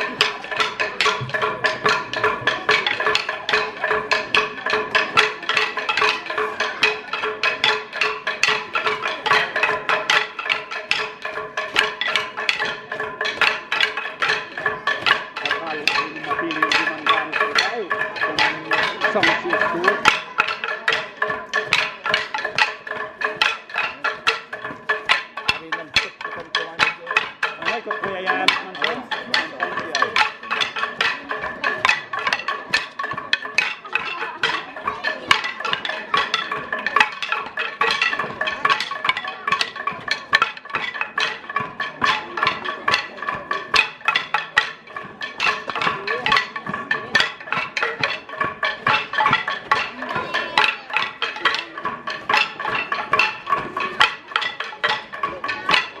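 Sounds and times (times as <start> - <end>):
bamboo sticks clacking: 0.0 - 56.0
percussion music with ringing tones: 0.0 - 56.0.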